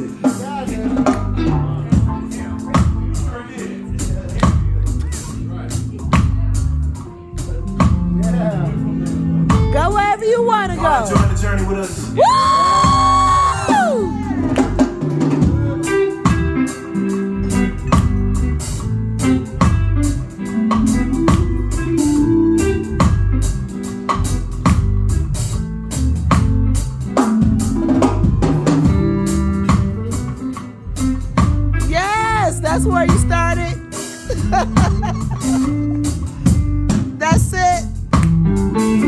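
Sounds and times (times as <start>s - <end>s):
drum kit: 0.0s - 39.0s
electric guitar: 0.0s - 39.0s
bass line: 0.6s - 39.0s.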